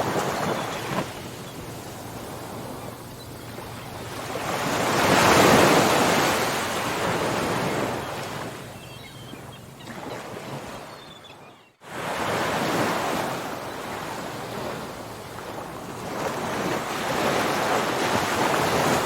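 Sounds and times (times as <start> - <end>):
ocean waves washing ashore: 0.0 - 10.9, 11.8 - 19.0.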